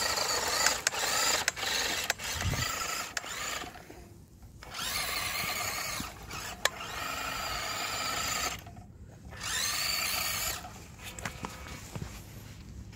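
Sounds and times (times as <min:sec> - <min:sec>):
small electric motor whining: 0:00.0 - 0:11.8.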